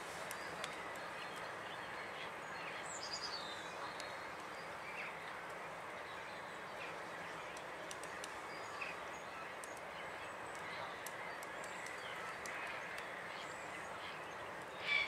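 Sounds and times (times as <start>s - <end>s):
steady outdoor hiss: 0.0s - 15.0s
wild birdsong: 0.0s - 15.0s.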